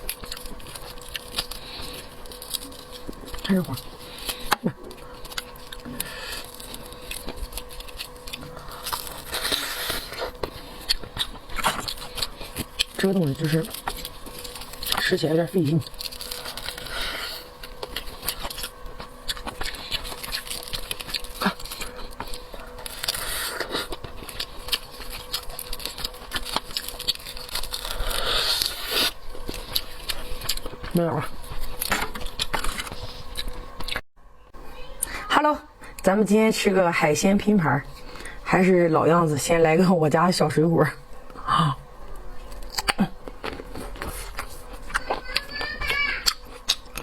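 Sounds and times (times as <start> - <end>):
chewing clicks and crackles: 0.0 - 34.0, 42.1 - 47.0.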